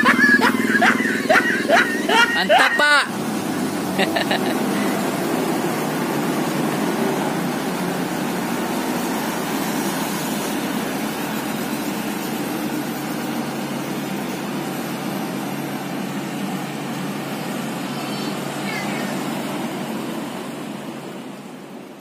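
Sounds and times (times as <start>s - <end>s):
road roller diesel engine running: 0.0s - 22.0s.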